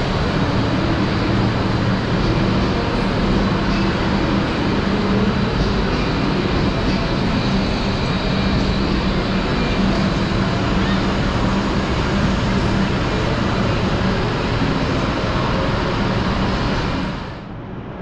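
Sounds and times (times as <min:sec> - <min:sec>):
train engine idling: 0:00.0 - 0:17.5.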